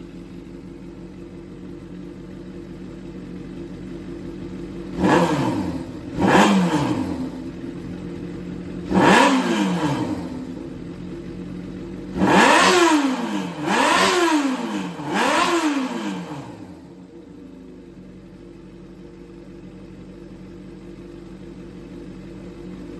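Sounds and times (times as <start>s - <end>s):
engine revving over idle: 0.0s - 22.9s.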